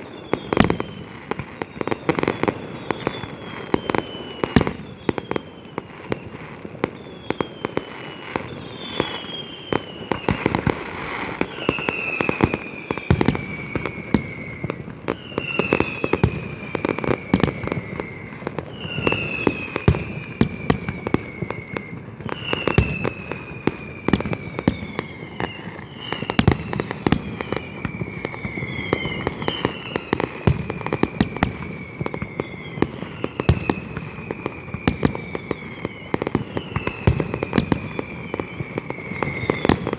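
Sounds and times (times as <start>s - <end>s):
fireworks bangs and crackles: 0.0s - 39.9s
whistling fireworks: 0.0s - 39.9s.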